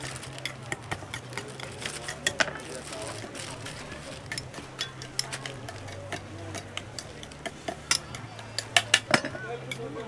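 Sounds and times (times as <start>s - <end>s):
sharp clicks and crackles: 0.0s - 9.9s.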